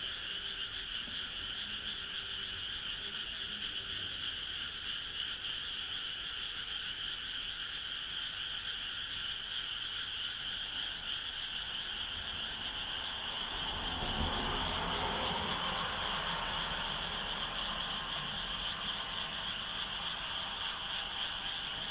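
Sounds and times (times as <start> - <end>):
frog chorus: 0.0 - 21.9.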